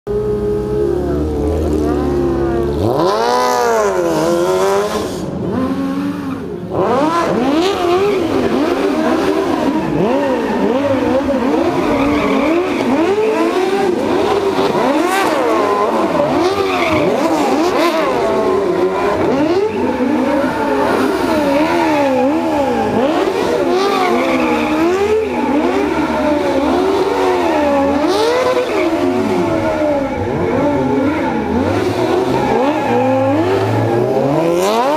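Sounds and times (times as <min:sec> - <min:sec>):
car engines revving: 0:00.1 - 0:34.9.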